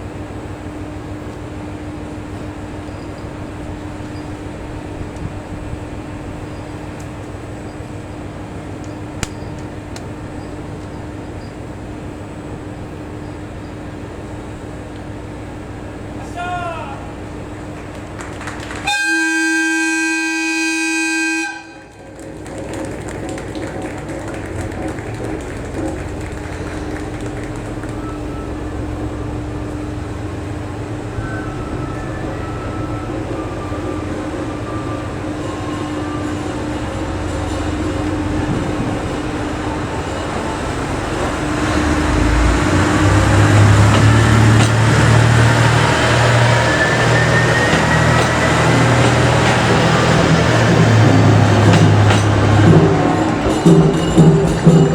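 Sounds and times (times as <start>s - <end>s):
diesel railcar engine humming: 0.0s - 54.9s.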